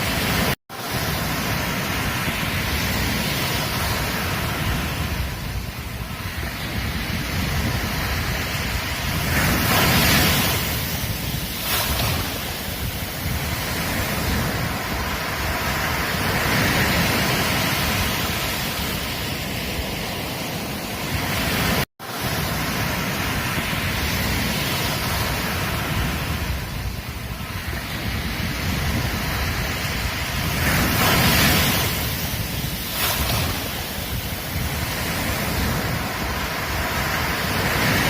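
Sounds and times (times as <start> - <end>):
surf breaking on beach: 0.0 - 38.0.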